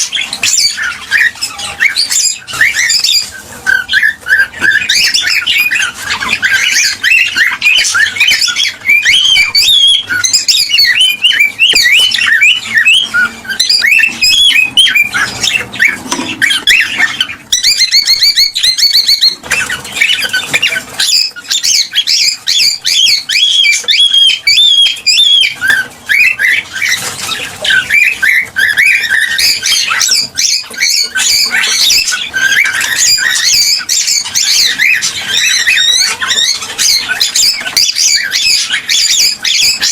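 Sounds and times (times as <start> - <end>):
buzzy bird trill: 0.0 - 39.9
cockatiels chirping and whistling: 0.0 - 39.9.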